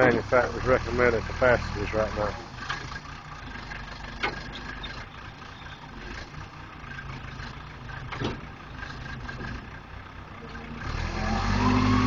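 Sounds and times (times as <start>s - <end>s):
backhoe engine running: 0.0s - 12.0s.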